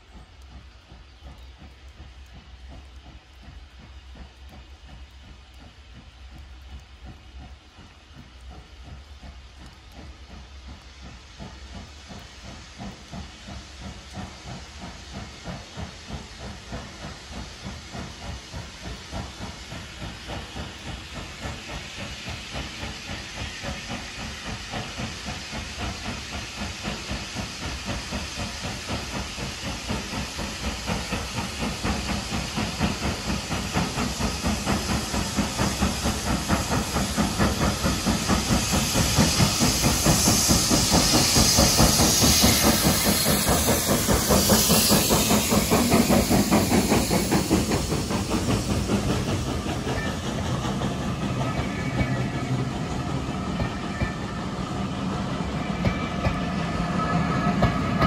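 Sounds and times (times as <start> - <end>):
steam hissing: 0.0 - 58.0
steam locomotive exhaust beats: 0.0 - 58.0.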